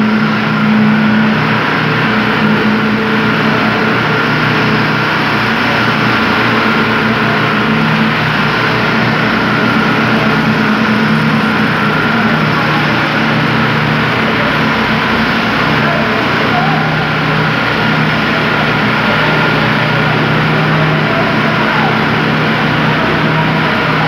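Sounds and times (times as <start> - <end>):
heavy machinery engine running: 0.0 - 24.0
steady high whine: 0.0 - 24.0.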